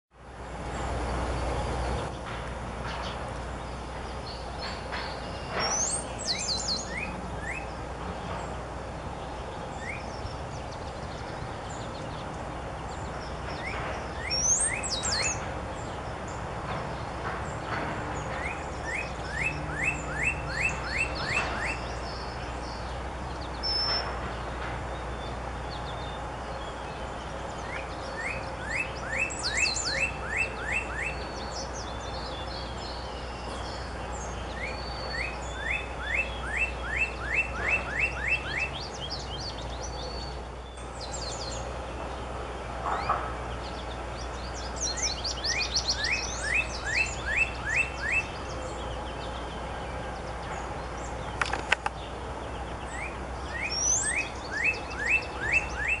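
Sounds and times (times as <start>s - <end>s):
birds chirping: 0.2s - 56.0s.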